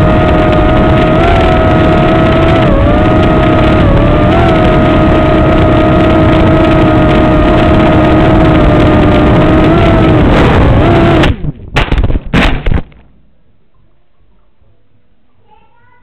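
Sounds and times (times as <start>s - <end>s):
drone propellers whining: 0.0s - 13.0s
drone crashing and tumbling: 0.0s - 13.2s.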